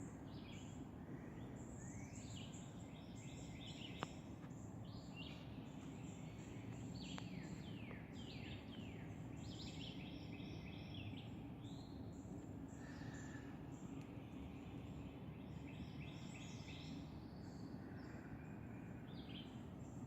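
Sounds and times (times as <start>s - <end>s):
low background rumble: 0.0s - 20.0s
birds calling: 0.3s - 19.8s.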